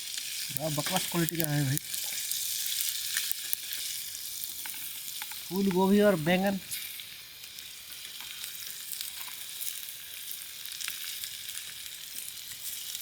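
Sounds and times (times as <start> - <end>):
small crackles of frying oil: 0.0 - 13.0
vegetables sizzling in hot oil: 0.0 - 13.0.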